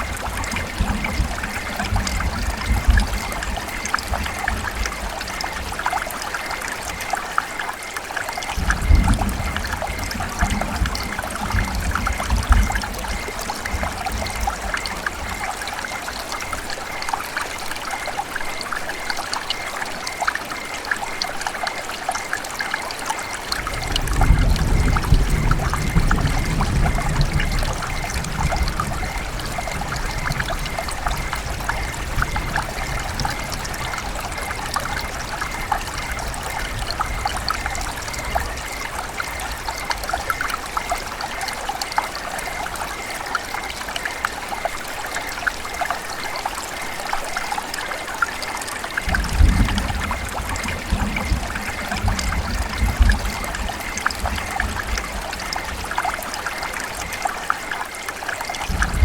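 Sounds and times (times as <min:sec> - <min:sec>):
river water trickling: 0:00.0 - 0:59.0.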